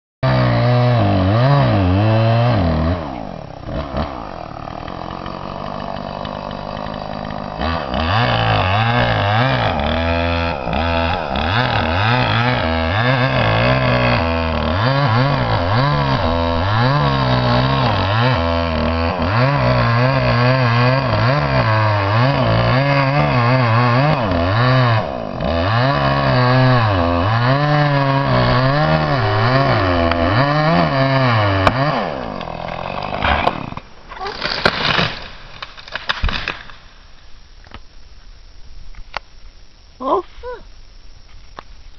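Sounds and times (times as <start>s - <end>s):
chainsaw cutting timber: 0.2s - 37.2s.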